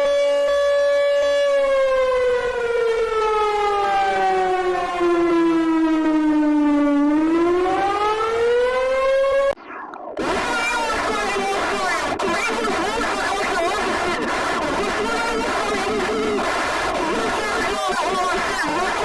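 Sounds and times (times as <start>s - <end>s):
warning siren wailing: 0.0s - 9.6s, 10.2s - 19.0s.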